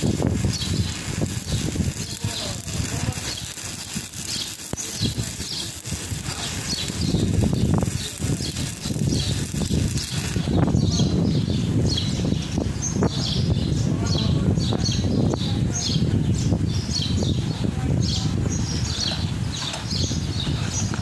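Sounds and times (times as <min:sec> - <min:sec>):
welding arc crackling and sputtering: 0:00.0 - 0:21.0.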